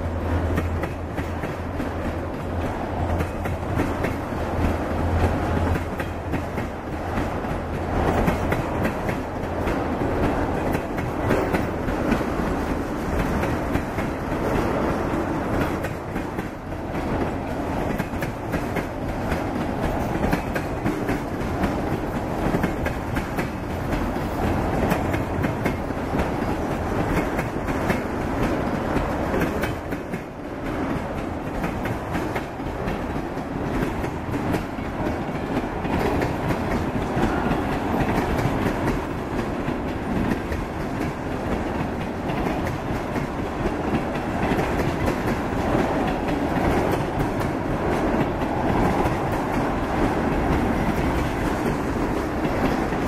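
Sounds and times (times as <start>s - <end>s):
freight train rumbling past: 0.0s - 53.0s
wheels clicking over rail joints: 0.0s - 53.0s.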